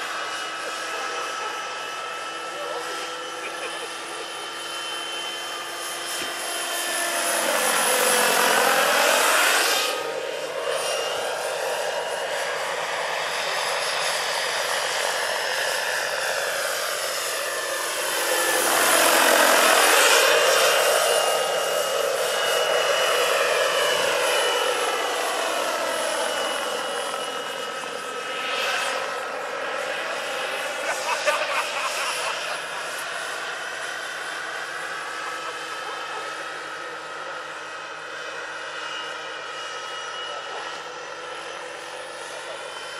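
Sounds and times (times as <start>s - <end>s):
helicopter rotor noise: 0.0s - 42.9s
model turbine whine: 0.0s - 42.9s.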